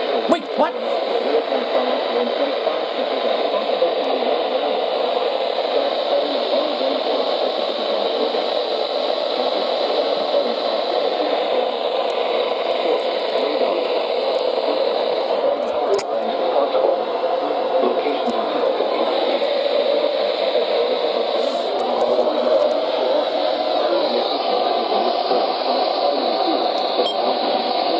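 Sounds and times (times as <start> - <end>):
radio static hiss: 0.0 - 27.9.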